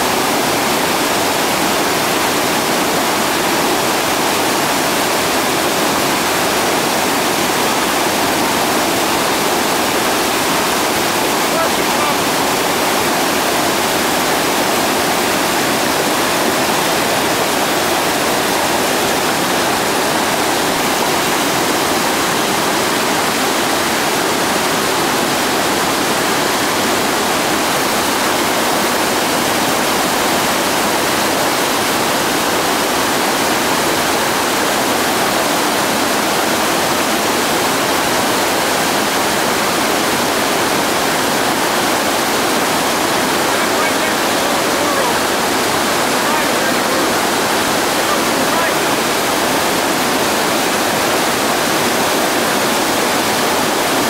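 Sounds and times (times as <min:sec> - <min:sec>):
whitewater rapids rushing: 0:00.0 - 0:54.0.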